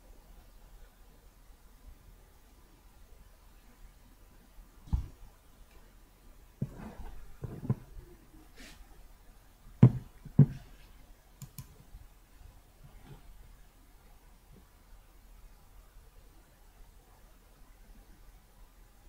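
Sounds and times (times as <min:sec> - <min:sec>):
faint low hiss: 0:00.0 - 0:19.0.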